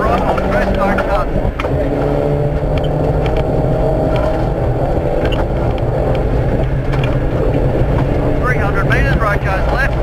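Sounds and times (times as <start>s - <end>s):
gravel road noise: 0.0s - 10.0s
rally car engine running hard: 0.0s - 10.0s.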